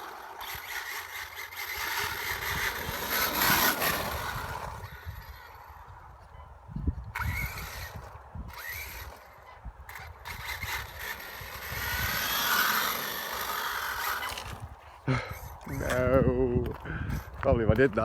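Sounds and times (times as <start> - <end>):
electric motor whining: 0.0 - 16.3
wind rumbling on microphone: 0.4 - 18.0.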